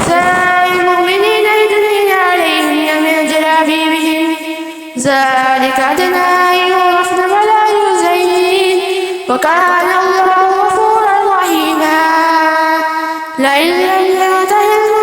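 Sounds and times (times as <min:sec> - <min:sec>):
person chanting recitation: 0:00.0 - 0:15.0.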